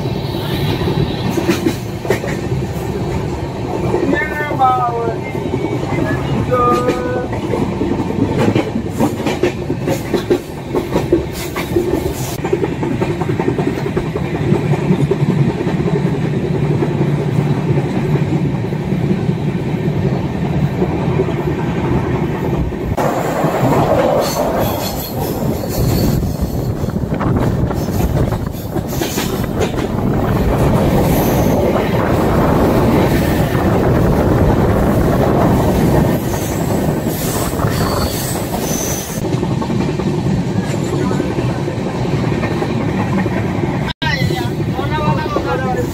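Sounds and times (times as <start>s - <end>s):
train wheels rumbling on track: 0.0s - 45.9s
clickety-clack over rail joints: 0.7s - 45.9s.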